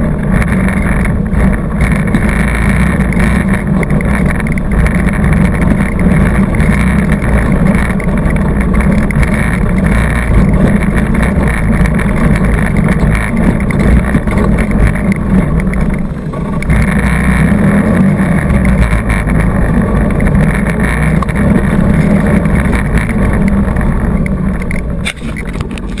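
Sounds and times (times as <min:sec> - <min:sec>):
atv engine running hard: 0:00.0 - 0:26.0.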